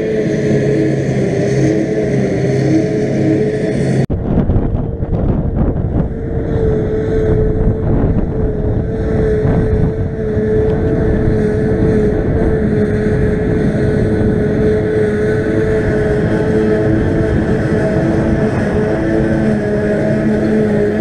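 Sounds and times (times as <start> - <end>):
forage harvester running: 0.0 - 21.0.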